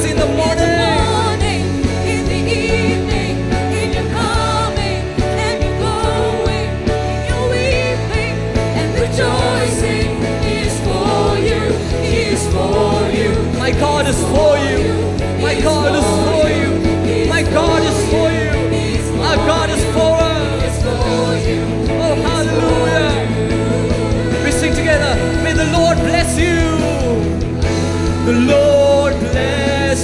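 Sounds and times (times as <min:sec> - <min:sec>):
live worship band playing: 0:00.0 - 0:30.0
man and woman singing: 0:00.0 - 0:30.0.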